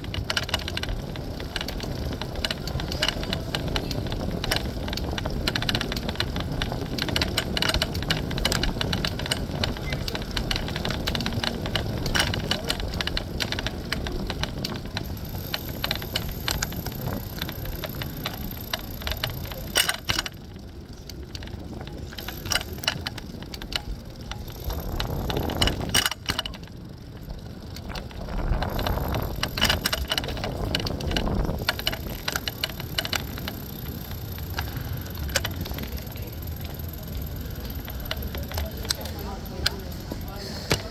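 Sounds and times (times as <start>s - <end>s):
bicycle rattling clicks and knocks: 0.0s - 40.9s
wind rumbling on microphone: 0.0s - 40.9s.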